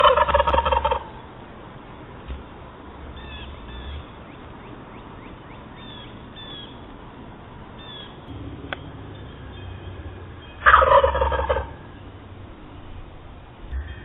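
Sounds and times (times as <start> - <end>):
faint outdoor background noise: 0.0 - 14.0
small birds chirping: 1.1 - 14.0.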